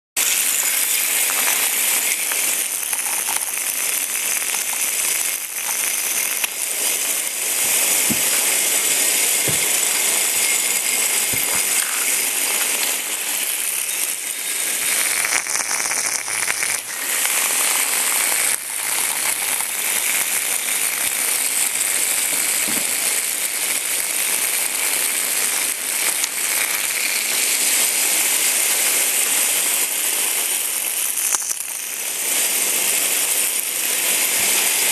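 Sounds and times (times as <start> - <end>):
vibrating toys buzzing and rattling: 0.2 - 34.9.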